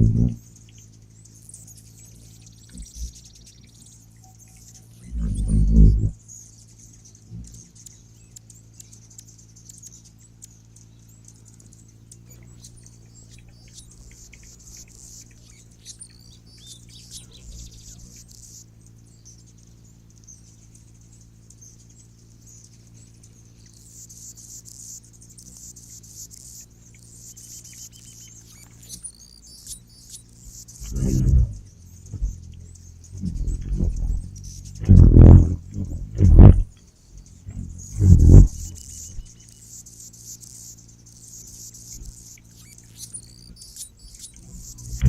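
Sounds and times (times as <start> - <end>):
small birds twittering: 0.0 - 45.0
steady low hum: 0.0 - 45.0.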